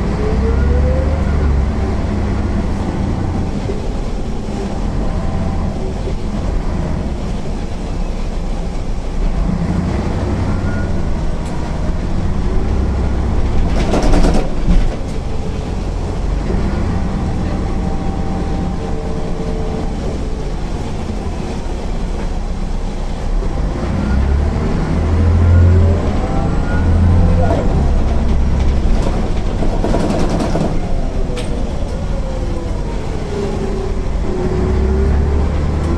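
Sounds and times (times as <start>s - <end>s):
bus diesel engine rumbling: 0.0s - 35.9s.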